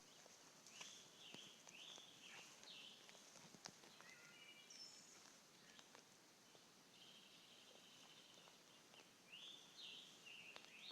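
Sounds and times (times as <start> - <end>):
faint whistled bird song: 0.0 - 3.1, 3.9 - 10.9.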